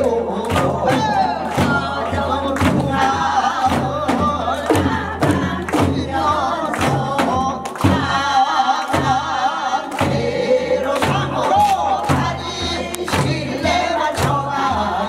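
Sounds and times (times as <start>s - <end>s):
women singing with vibrato: 0.0s - 15.0s.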